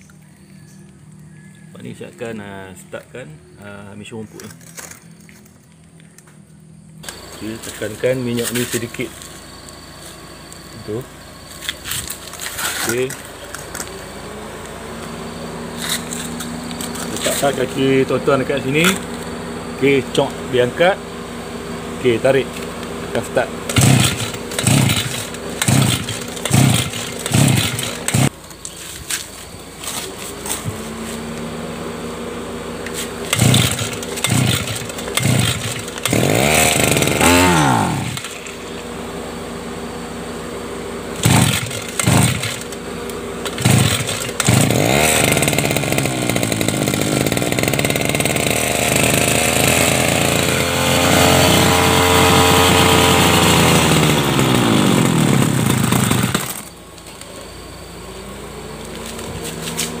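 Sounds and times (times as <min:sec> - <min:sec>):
brush cutter engine revving: 0:07.0 - 1:00.0.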